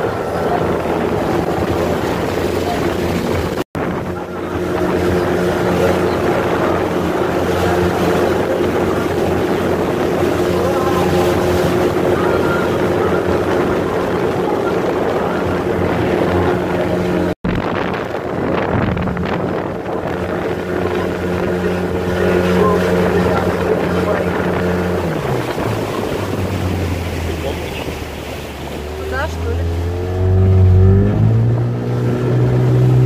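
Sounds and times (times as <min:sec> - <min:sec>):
motorboat engine running: 0:00.0 - 0:33.0
wind and water rushing: 0:00.0 - 0:33.0.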